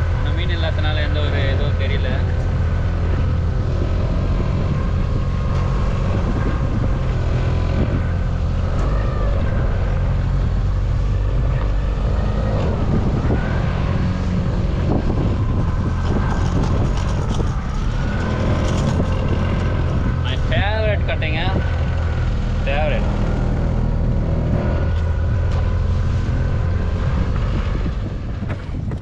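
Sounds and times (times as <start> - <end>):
boat engine drone: 0.0 - 29.0
rushing wind: 0.0 - 29.0
water noise: 2.4 - 29.0.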